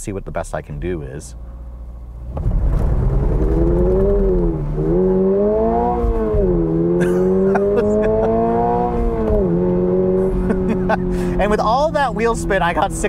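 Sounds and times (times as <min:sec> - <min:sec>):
car engine accelerating: 0:01.4 - 0:13.0.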